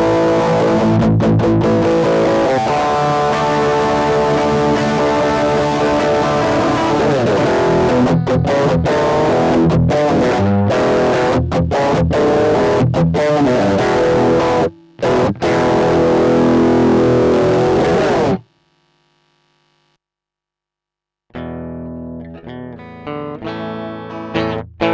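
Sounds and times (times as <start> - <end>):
distorted electric guitar: 0.0 - 20.0, 21.4 - 24.9.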